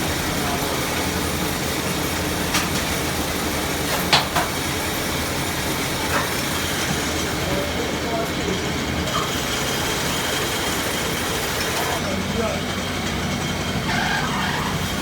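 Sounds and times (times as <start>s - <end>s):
workshop machinery rumbling: 0.0s - 15.0s.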